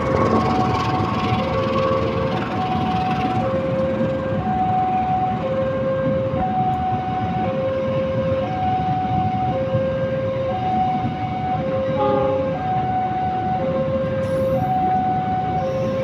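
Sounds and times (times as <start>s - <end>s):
train carriages rumbling on rails: 0.0s - 16.0s
two-tone warning alarm: 0.1s - 16.0s.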